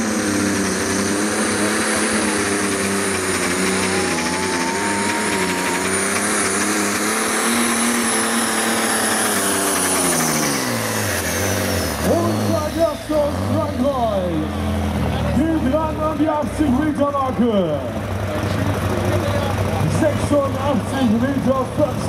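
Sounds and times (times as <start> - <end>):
tractor engine at full power: 0.0 - 22.0.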